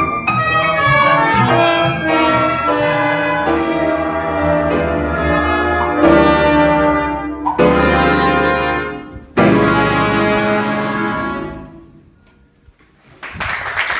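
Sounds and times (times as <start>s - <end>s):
wind band playing brass chords: 0.2s - 12.0s.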